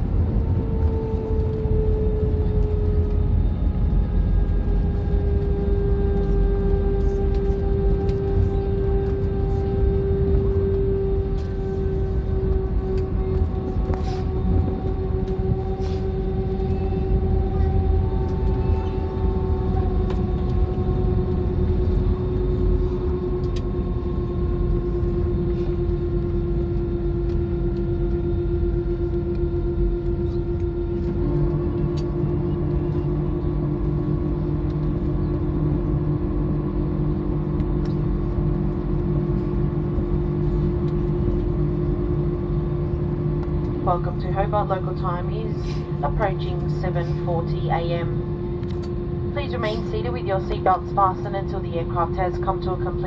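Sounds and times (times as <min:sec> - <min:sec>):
airplane cabin rumble: 0:00.0 - 0:53.0
jet engine whine: 0:00.0 - 0:53.0
low hum: 0:00.0 - 0:53.0.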